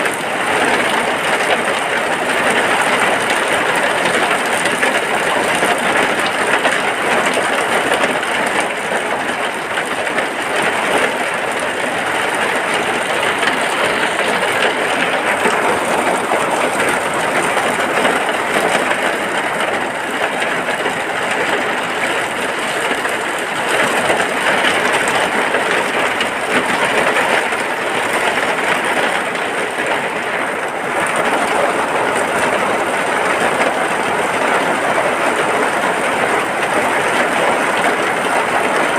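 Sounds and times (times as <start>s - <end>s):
rain falling on a hut: 0.0s - 38.9s.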